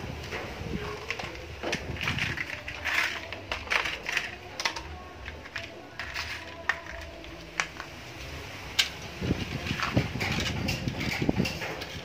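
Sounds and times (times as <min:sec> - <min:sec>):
plastic toys clacking on paving stones: 0:00.2 - 0:12.0.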